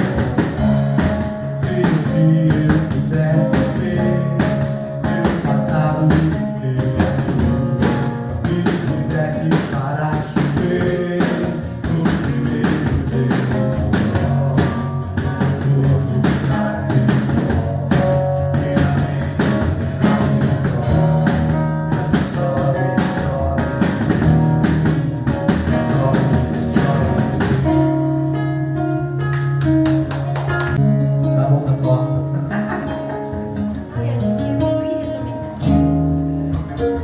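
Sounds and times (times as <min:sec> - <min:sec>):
quick percussion beat: 0:00.0 - 0:30.8
plucked strings: 0:00.0 - 0:37.0.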